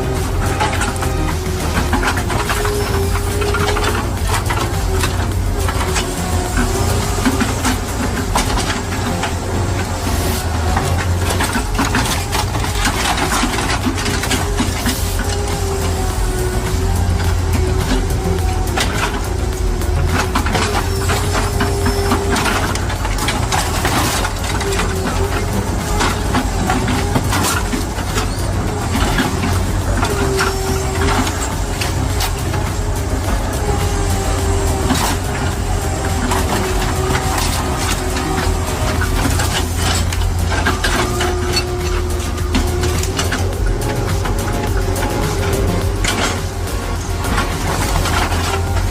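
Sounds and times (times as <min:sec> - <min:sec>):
low engine rumble: 0:00.0 - 0:48.9
machine clattering and knocking: 0:00.0 - 0:48.9.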